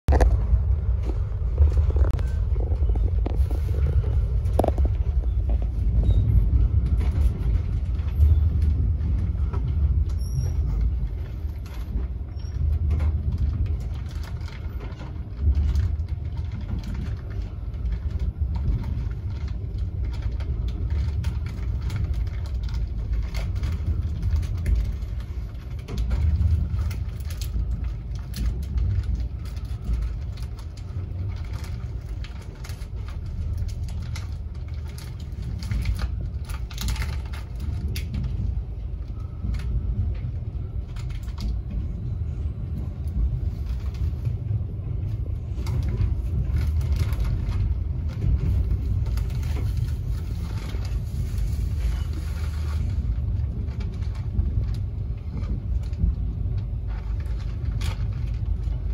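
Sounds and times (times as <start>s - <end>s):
train rumbling inside carriage: 0.0s - 58.9s
wheels clicking on rails: 0.1s - 58.9s.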